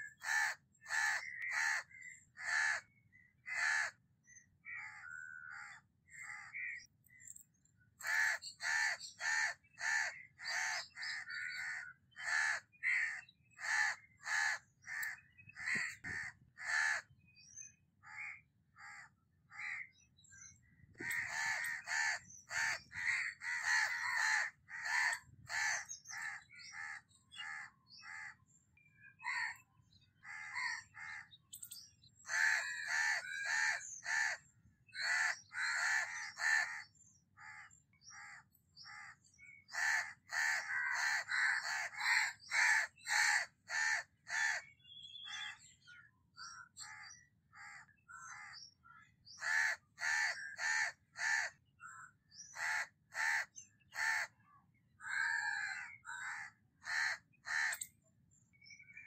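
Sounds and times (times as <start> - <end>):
harsh cawing bird calls: 0.0 - 59.0.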